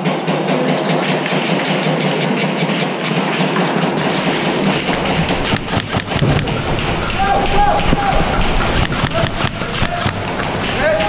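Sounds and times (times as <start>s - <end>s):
airsoft gunfire: 0.0s - 11.0s
bb impacts: 0.7s - 11.0s
gear knocking and rustling: 0.7s - 11.0s.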